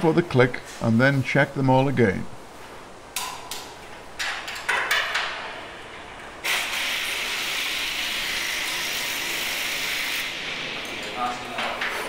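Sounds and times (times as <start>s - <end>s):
steady hiss: 0.0s - 4.3s, 4.9s - 12.0s.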